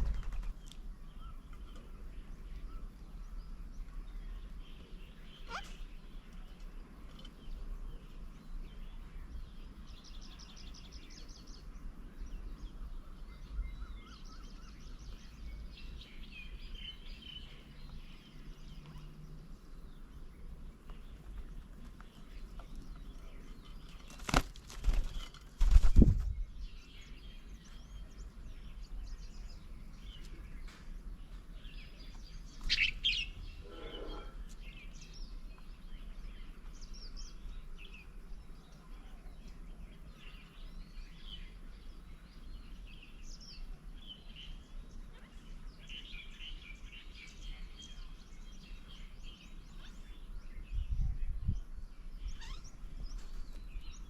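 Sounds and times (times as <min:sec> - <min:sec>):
birds calling and chirping: 0:00.0 - 0:54.0.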